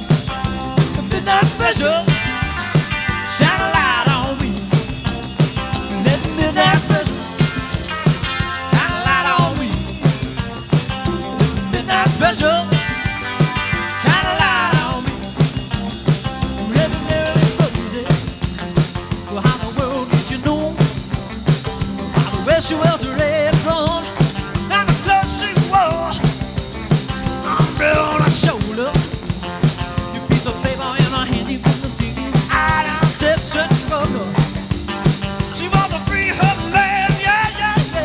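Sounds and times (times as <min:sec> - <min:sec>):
drum kit beat: 0:00.0 - 0:38.0
electric guitar lines: 0:00.0 - 0:38.0.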